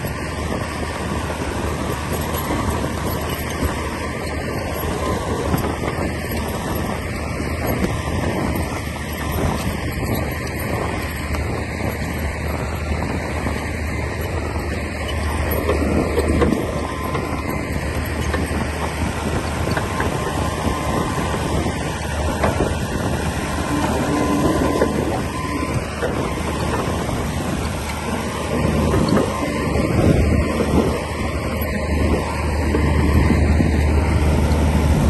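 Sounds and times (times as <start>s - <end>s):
bulldozer diesel engine under load: 0.0s - 35.0s.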